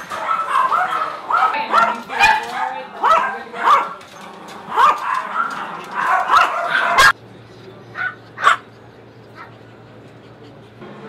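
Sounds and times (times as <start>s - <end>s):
small dogs barking and yipping: 0.0s - 10.8s.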